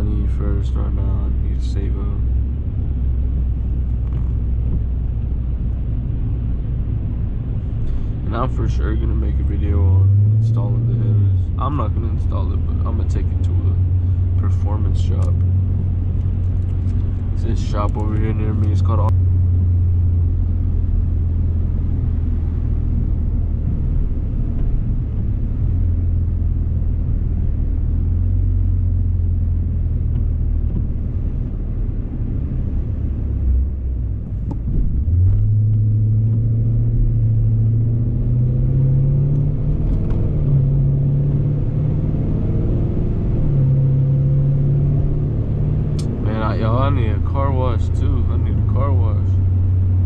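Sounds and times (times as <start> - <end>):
car engine drone: 0.0 - 50.0
tyres on wet road: 0.0 - 50.0.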